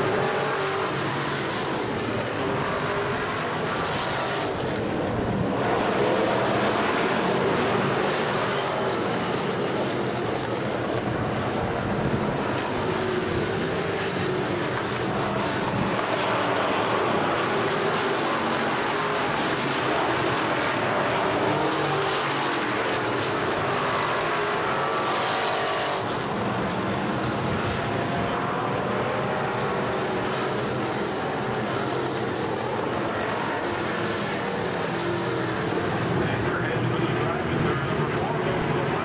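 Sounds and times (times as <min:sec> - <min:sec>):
race car engines passing: 0:00.0 - 0:39.0.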